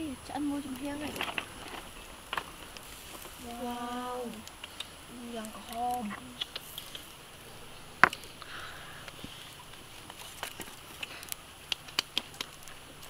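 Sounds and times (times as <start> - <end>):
faint hiss: 0.0 - 13.0
fire crackling and popping: 0.0 - 13.0.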